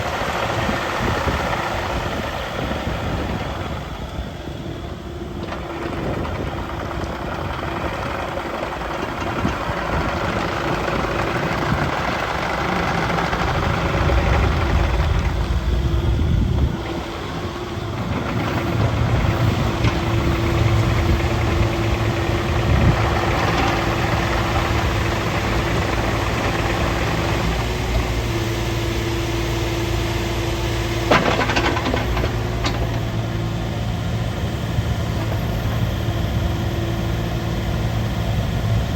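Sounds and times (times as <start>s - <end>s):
excavator diesel engine running: 0.0s - 38.9s
steady whine: 0.0s - 38.9s.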